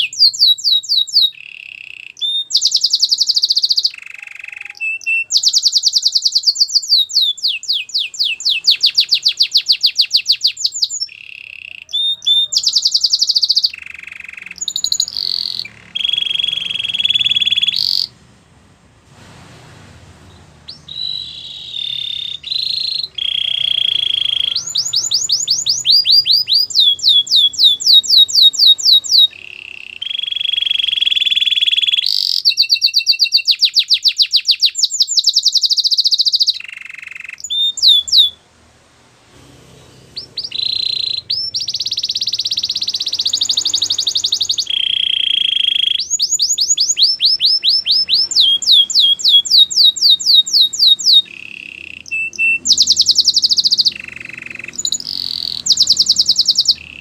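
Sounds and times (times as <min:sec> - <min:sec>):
canary singing: 0:00.0 - 0:18.3, 0:20.2 - 0:38.6, 0:39.6 - 0:57.0.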